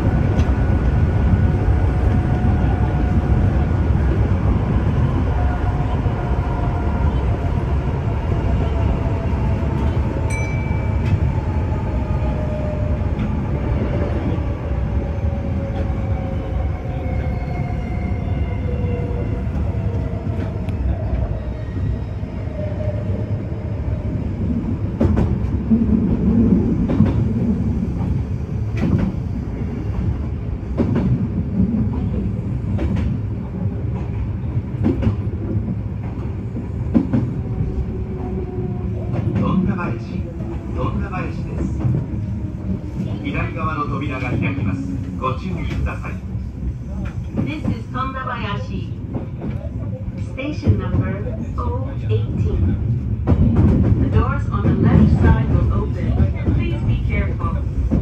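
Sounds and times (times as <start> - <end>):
electric train rumble: 0.0 - 58.0.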